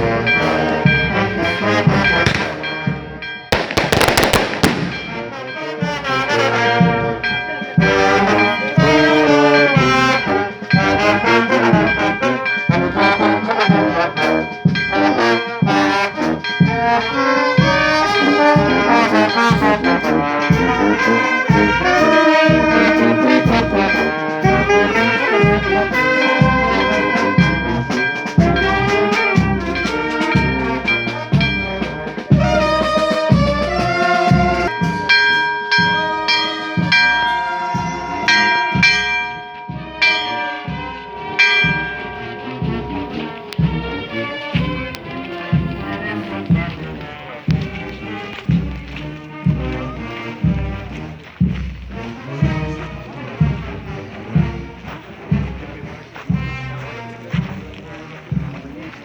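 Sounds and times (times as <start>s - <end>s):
brass band playing: 0.0s - 59.0s
regular drum beat: 0.0s - 59.0s.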